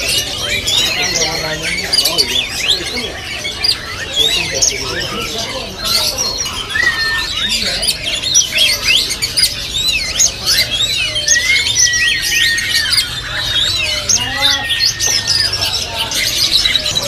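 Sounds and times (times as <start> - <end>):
long steady bird whistle: 0.0 - 17.0
songbirds chirping and whistling: 0.0 - 17.0.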